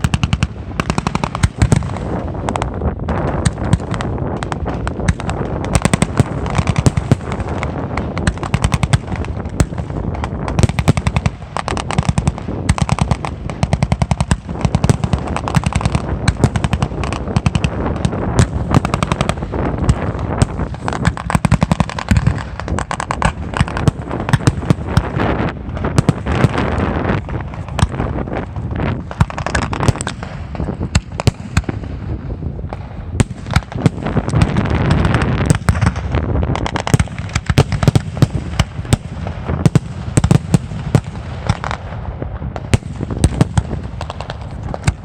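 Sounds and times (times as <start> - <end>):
fireworks barrage: 0.0 - 45.0.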